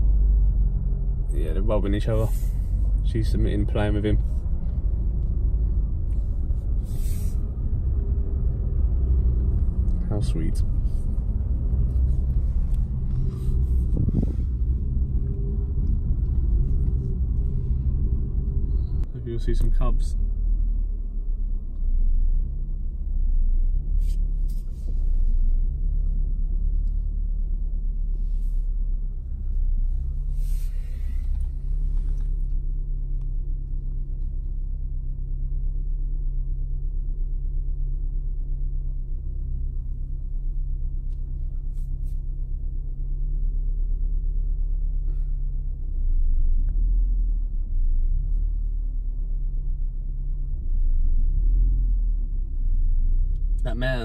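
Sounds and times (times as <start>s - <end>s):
car engine rumble from cabin: 0.0s - 54.0s.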